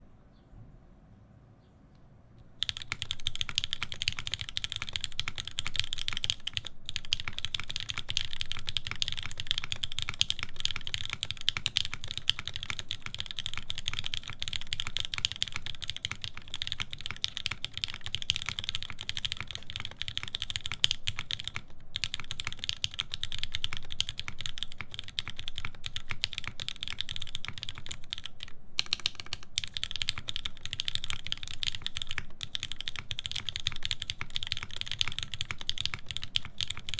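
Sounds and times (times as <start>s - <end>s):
fast typing on mechanical keyboard: 2.5s - 36.9s.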